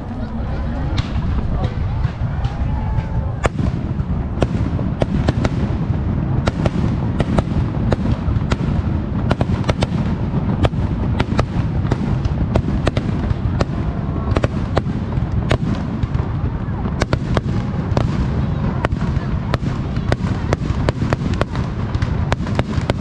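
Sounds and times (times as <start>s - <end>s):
firework crackles and bangs: 0.0s - 23.0s.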